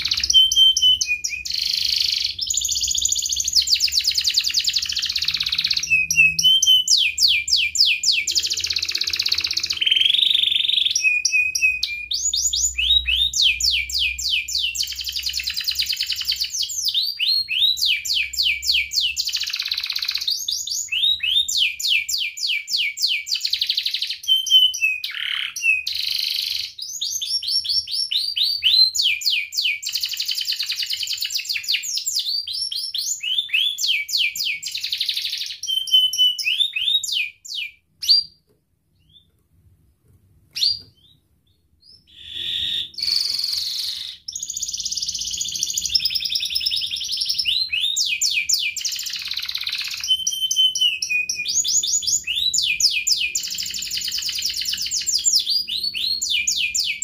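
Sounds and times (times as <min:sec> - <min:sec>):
canary singing trills: 0:00.0 - 0:39.3, 0:40.5 - 0:57.0.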